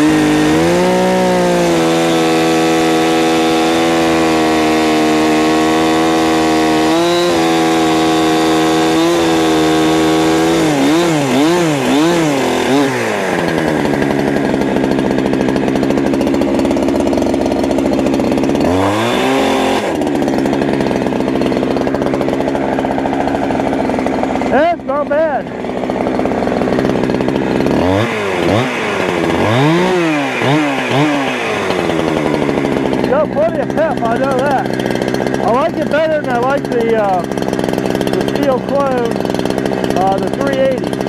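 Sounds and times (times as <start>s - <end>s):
chainsaw cutting firewood: 0.0s - 41.0s.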